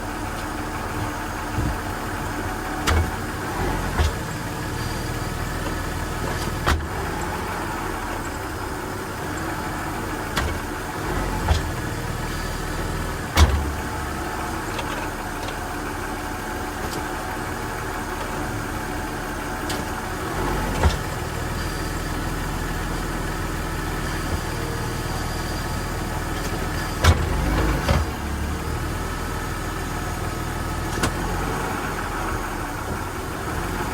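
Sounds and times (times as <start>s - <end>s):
car engine idling: 0.0s - 33.9s
transmission shifting clunks: 0.0s - 33.9s.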